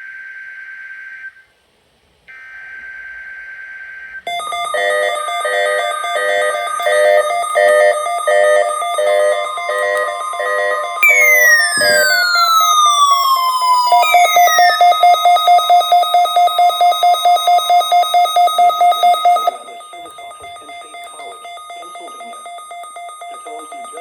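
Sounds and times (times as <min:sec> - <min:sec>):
buzzing digital data tones: 0:02.4 - 0:24.0
pulsing electronic alert chime: 0:04.3 - 0:24.0.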